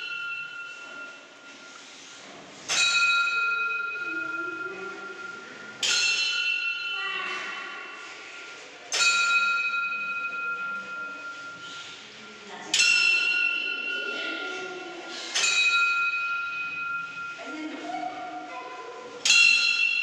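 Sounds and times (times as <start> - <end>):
prayer wheel bell ringing: 0.0 - 20.0.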